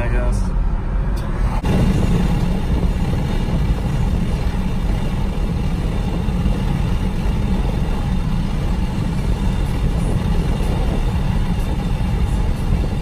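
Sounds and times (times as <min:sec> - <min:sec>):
engine droning: 0:00.0 - 0:13.0
wind and road noise: 0:00.0 - 0:13.0.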